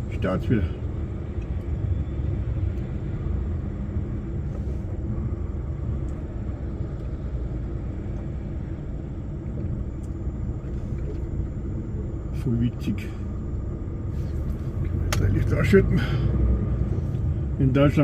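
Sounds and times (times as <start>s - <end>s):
lorry diesel engine rumbling: 0.0s - 18.0s.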